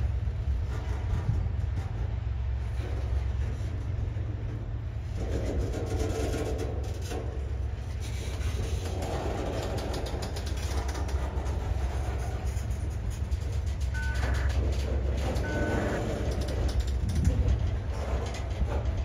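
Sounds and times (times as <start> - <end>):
train rumble: 0.0 - 19.0
train wheels clicking on rails: 0.0 - 19.0.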